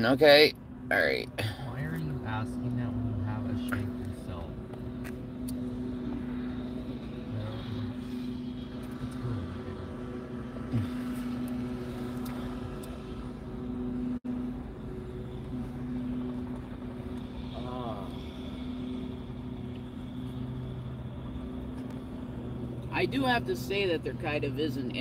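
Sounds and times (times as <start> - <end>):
car engine hum: 0.0 - 25.0.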